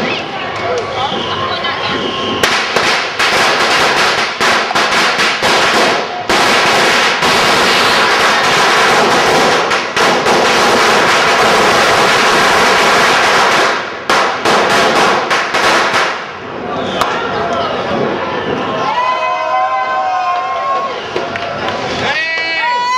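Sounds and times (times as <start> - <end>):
firecrackers going off: 0.0 - 22.9.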